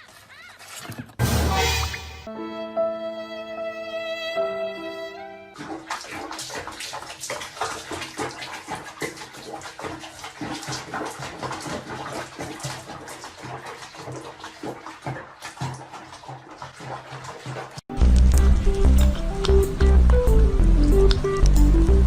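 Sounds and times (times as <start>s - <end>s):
water splashing and sloshing: 0.0s - 2.3s, 5.5s - 22.0s.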